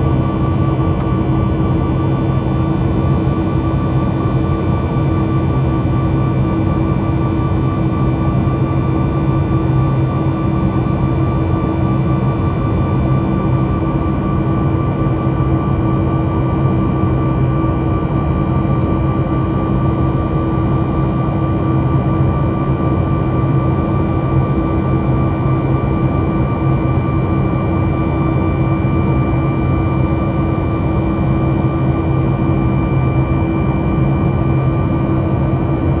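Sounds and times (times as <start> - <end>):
jet engine drone in cabin: 0.0 - 36.0.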